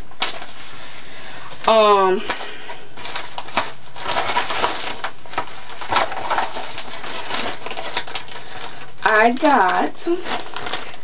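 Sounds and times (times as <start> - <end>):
paper and packaging crinkling: 0.1 - 1.0, 1.7 - 11.0.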